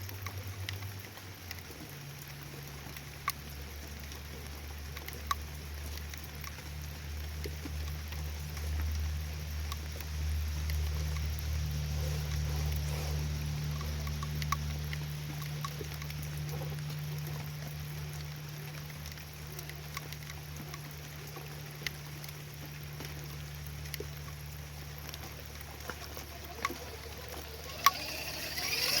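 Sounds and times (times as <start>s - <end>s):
rain falling: 0.0s - 29.0s
steady low hum: 0.0s - 29.0s.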